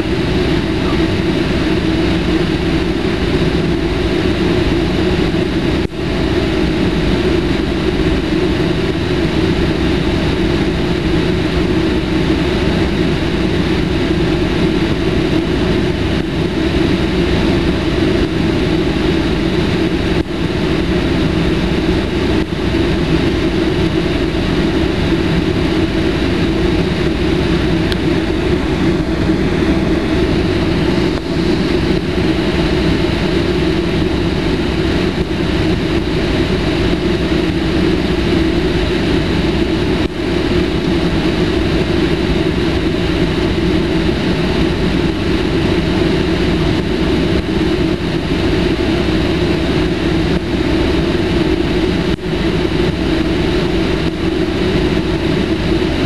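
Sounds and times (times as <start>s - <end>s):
jet engines humming in cabin: 0.0s - 56.0s.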